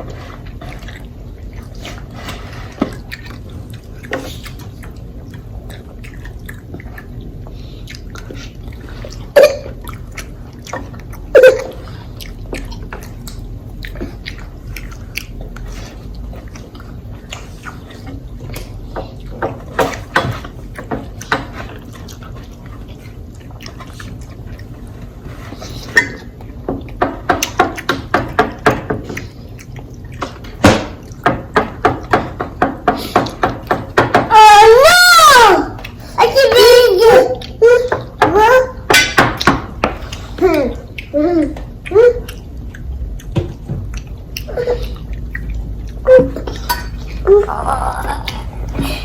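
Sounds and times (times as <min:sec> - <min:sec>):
chewing and lip smacking: 0:00.3 - 0:31.2, 0:35.8 - 0:36.2, 0:39.4 - 0:47.5.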